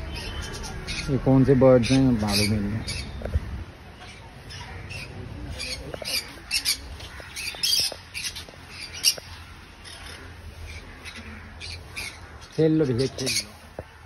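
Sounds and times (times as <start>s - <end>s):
caged birds squawking and chirping: 0.0s - 14.0s.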